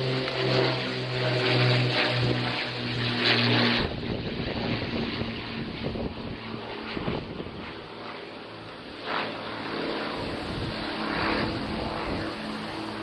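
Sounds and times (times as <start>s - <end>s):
haze of noise: 0.0s - 13.0s.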